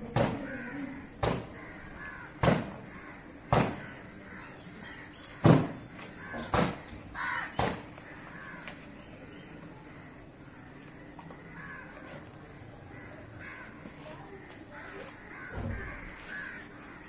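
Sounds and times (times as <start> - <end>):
crow cawing: 0.4 - 8.8, 9.8 - 17.0.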